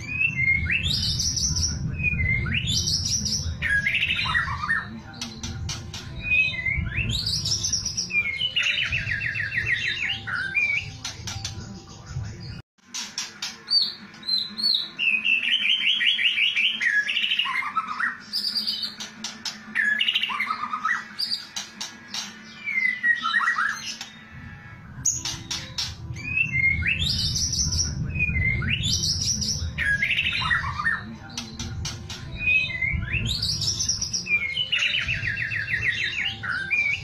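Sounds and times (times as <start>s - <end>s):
bird trill: 0.0s - 12.0s, 12.9s - 24.4s, 25.0s - 37.0s.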